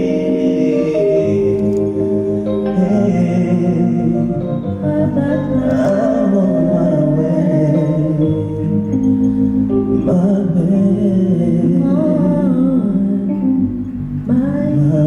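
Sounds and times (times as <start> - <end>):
singer holding wordless vocal: 0.0 - 15.0
sustained chords: 0.0 - 15.0.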